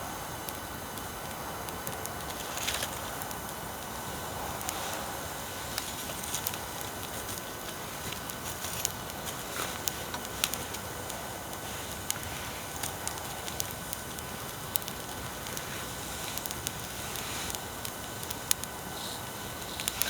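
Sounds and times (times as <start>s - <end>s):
bonfire crackling and popping: 0.0s - 20.0s
recording hiss: 0.0s - 20.0s.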